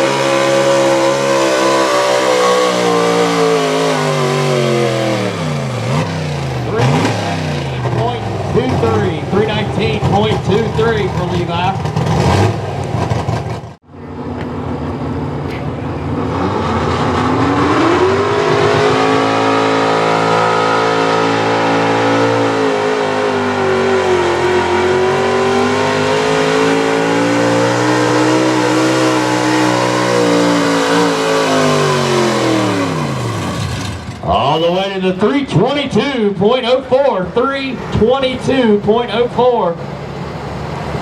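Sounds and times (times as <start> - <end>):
truck engine at high revs: 0.0 - 41.0.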